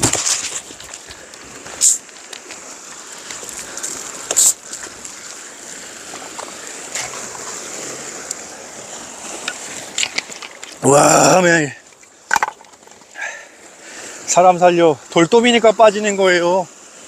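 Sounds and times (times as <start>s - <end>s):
surf washing against rocks: 0.0s - 17.0s.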